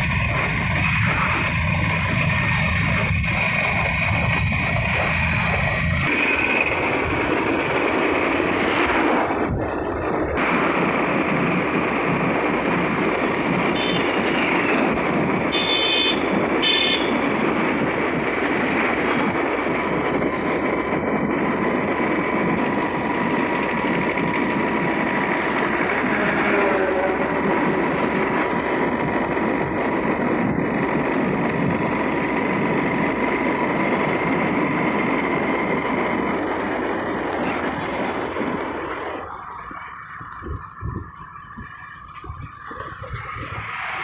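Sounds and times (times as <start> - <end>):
road noise: 0.0 - 44.0
rushing wind on microphone: 0.0 - 44.0.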